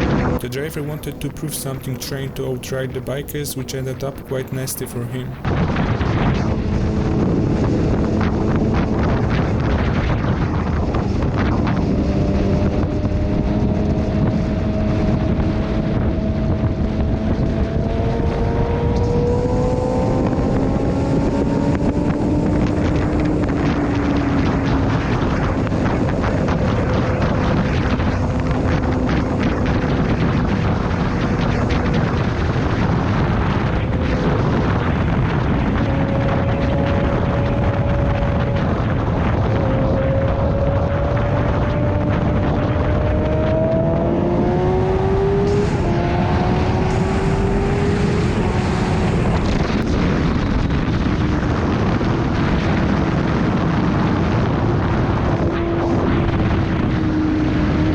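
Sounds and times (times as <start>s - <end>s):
wind rush on microphone: 0.0s - 0.4s, 5.4s - 57.9s.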